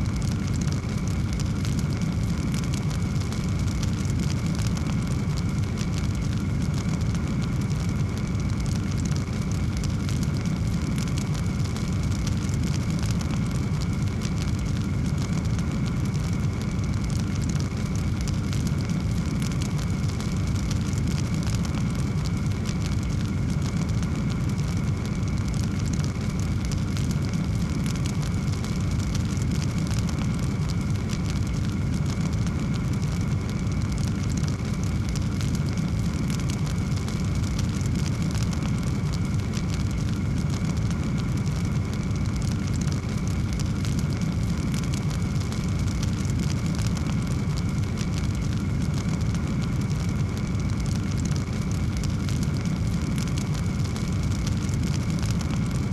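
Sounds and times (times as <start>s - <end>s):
fireplace fire crackling: 0.0s - 55.9s.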